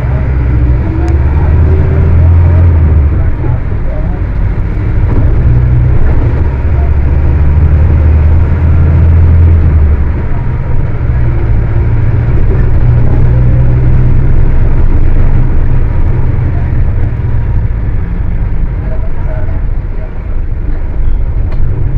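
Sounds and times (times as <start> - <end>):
diesel engine deep rumble: 0.0 - 21.9.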